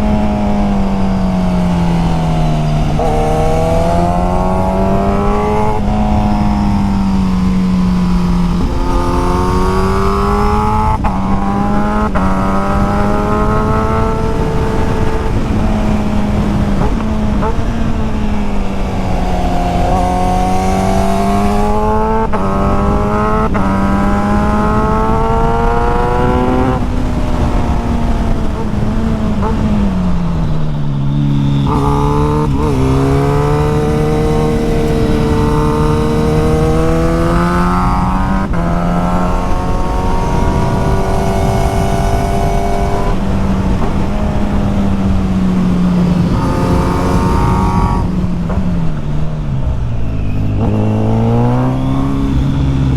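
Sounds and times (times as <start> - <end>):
motorcycle engine accelerating: 0.0 - 52.9
wind noise: 0.0 - 52.9.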